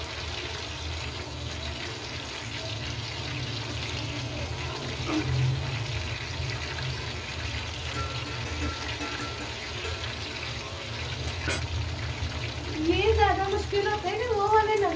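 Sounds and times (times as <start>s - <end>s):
food deep-frying in oil: 0.0s - 14.9s.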